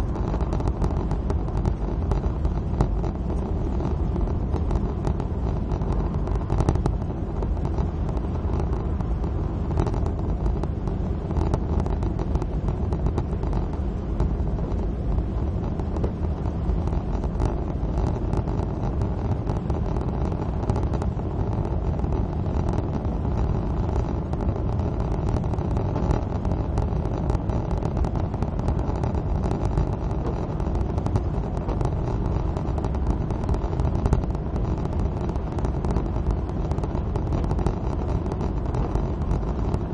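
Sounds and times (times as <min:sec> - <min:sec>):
car engine and road rumble: 0:00.0 - 0:39.9
faint ticks: 0:00.0 - 0:39.9
tyre noise on wet road: 0:00.0 - 0:39.9.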